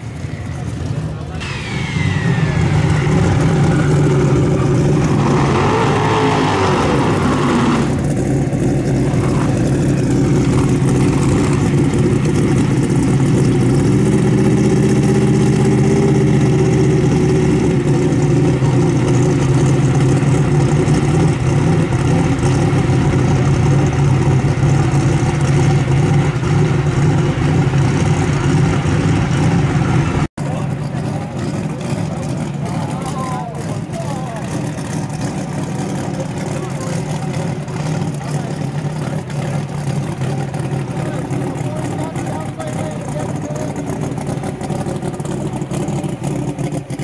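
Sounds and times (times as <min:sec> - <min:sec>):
car engines idling loudly: 0:00.0 - 0:47.0.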